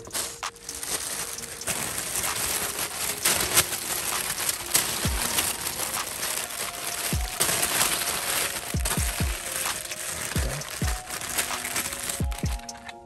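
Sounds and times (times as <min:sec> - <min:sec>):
paper crinkling and rustling: 0:00.0 - 0:13.0.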